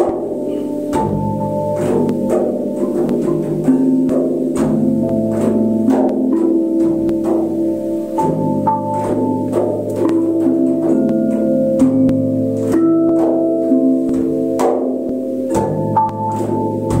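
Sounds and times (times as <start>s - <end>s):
flat metal bells struck: 0.0s - 17.0s.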